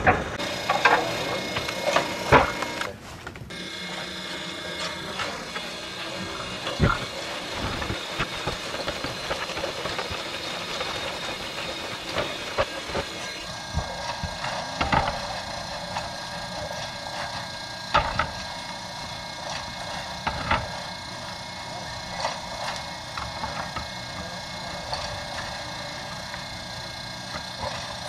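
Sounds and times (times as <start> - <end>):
conveyor mechanical hiss: 0.4 - 28.0.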